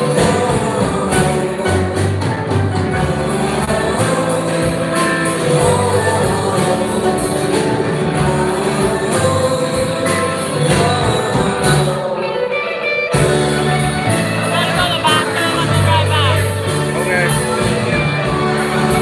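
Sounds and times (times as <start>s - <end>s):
drums: 0.0s - 19.0s
electric guitar: 0.0s - 19.0s
keyboards: 0.0s - 19.0s.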